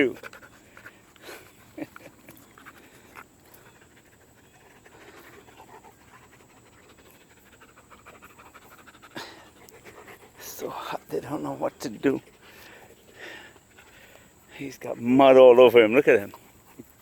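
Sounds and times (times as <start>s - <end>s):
dog panting: 0.0s - 15.2s.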